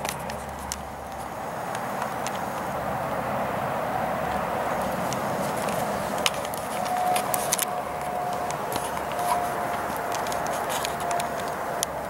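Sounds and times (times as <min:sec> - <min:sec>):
sharp clicks: 0:00.0 - 0:02.7, 0:04.3 - 0:12.0
distant road traffic roar: 0:00.0 - 0:12.0.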